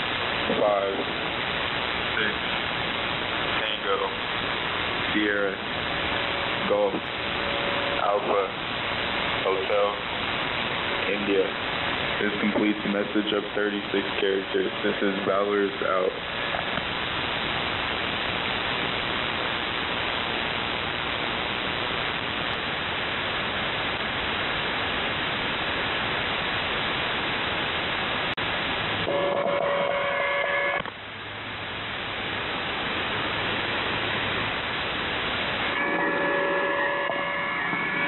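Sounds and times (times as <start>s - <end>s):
shortwave radio static hiss: 0.0s - 38.0s.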